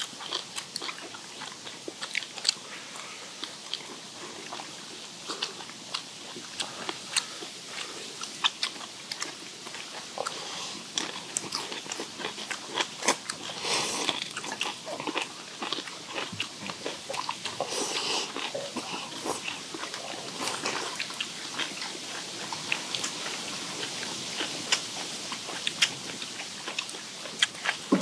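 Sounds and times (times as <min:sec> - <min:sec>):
people chewing and crunching: 0:00.0 - 0:28.0
slurping: 0:00.9 - 0:28.0.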